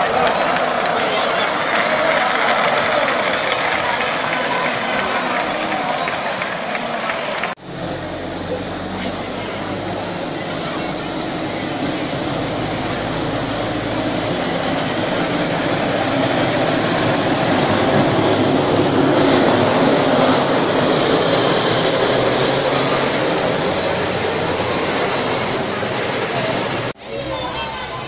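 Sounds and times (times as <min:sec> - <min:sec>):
carts rolling on asphalt: 0:00.0 - 0:28.0.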